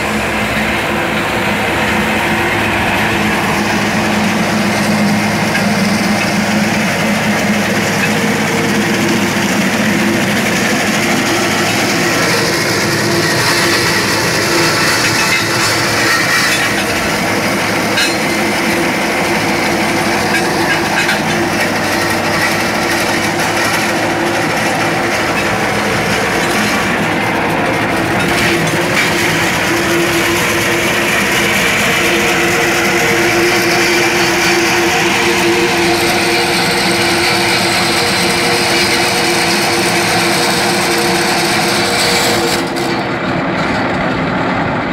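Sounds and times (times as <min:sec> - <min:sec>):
stone crusher grinding rock: 0:01.8 - 0:43.9.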